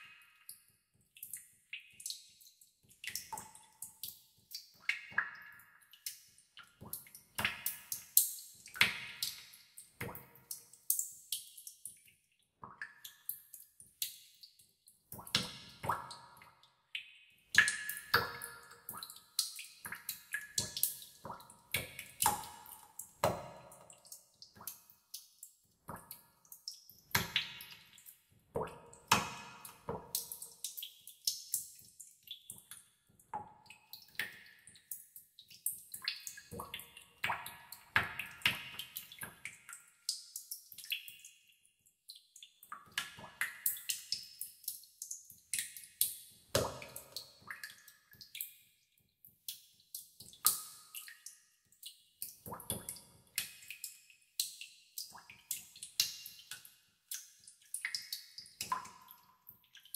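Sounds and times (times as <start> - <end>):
water drops plinking into water: 0.0 - 41.4, 42.1 - 48.6, 49.4 - 59.9.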